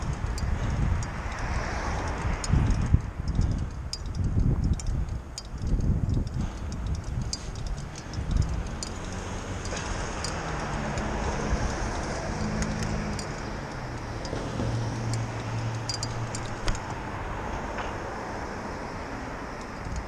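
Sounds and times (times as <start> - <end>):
passing vehicle engine drone: 0.0 - 3.1, 6.4 - 20.0
light clicks and rattles: 0.0 - 17.0, 19.6 - 20.0
hum of traffic engines and tyres: 0.0 - 20.0.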